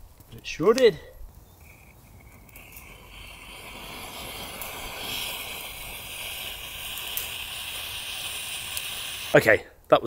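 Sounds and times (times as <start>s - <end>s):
wet wood hissing in fire: 0.0s - 9.9s
fire pops: 0.0s - 10.0s.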